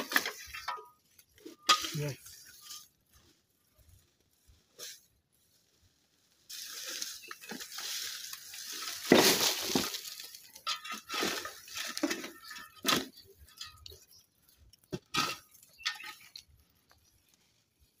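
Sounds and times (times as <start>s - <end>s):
dry twigs rustling and crackling: 0.0s - 18.0s.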